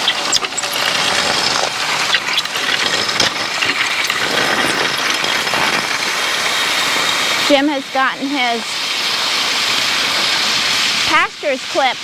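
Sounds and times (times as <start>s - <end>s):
harrow scraping over gravel: 0.0s - 11.9s.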